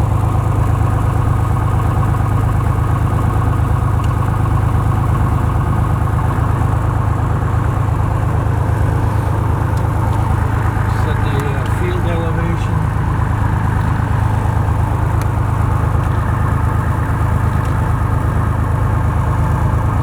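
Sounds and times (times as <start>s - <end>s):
aircraft engine and propeller running: 0.0s - 20.0s.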